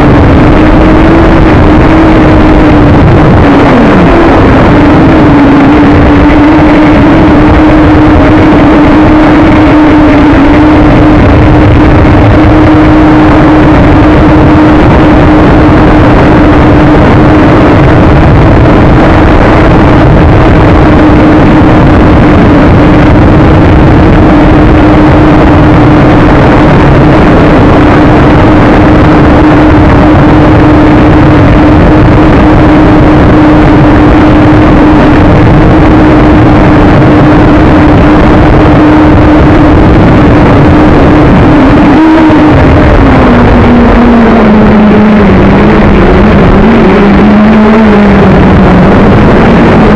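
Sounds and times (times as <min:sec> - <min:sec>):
drone motors and propellers whirring: 0:00.0 - 0:49.9
wind rumble on microphone: 0:00.0 - 0:49.9.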